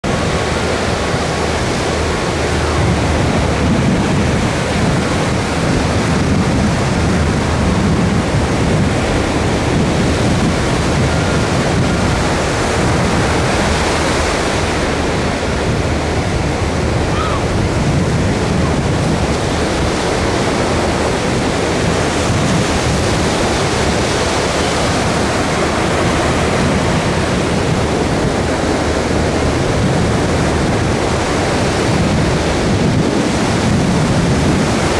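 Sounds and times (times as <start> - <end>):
ocean surf breaking on beach: 0.0 - 34.9.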